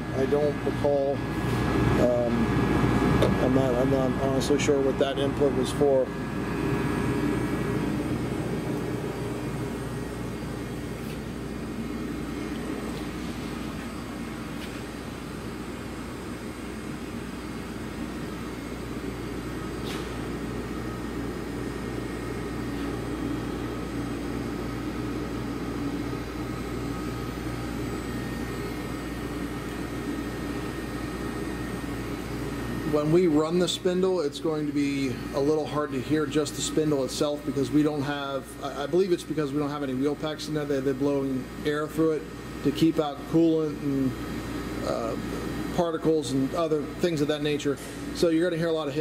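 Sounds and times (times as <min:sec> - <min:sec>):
machine humming: 0:00.0 - 0:49.0.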